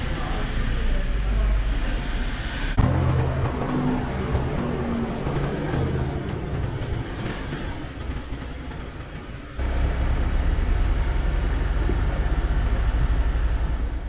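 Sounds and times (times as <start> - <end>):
deep rumble: 0.0 - 9.0, 9.6 - 14.0
car engine running: 0.0 - 14.0.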